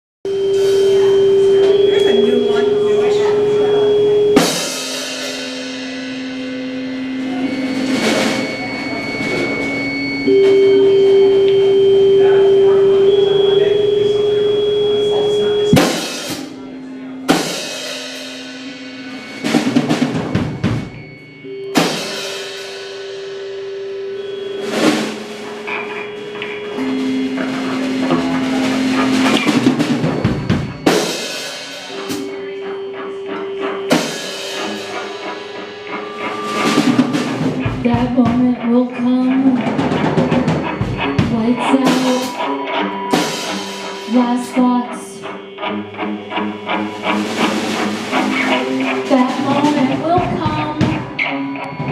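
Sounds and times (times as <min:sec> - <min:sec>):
cymbal crash: 0:00.3 - 0:11.2, 0:15.5 - 0:38.3, 0:39.6 - 0:51.9
drum-kit fill: 0:00.3 - 0:51.9
live rock band: 0:00.3 - 0:51.9.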